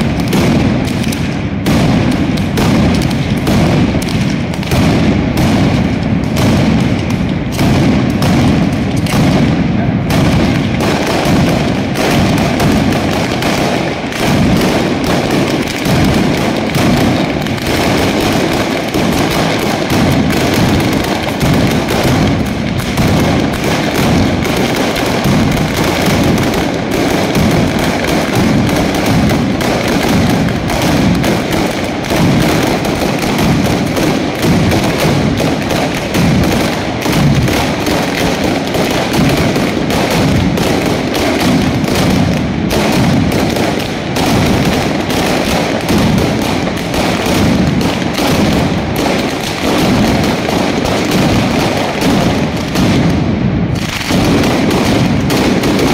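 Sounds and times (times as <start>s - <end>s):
firecrackers crackling: 0.0s - 55.9s.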